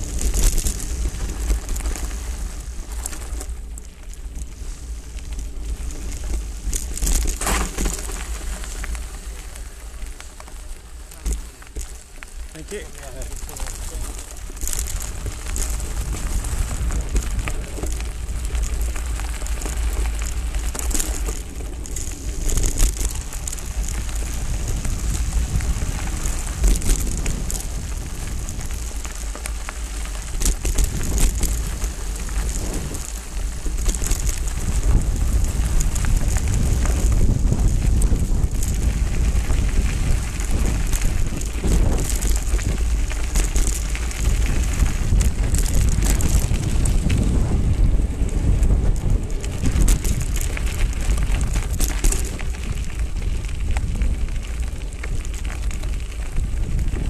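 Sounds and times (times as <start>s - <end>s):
bike rattling and clicking: 0.0s - 57.0s
tyres crunching on gravel: 0.0s - 57.0s
wind rumble on microphone: 0.0s - 57.0s.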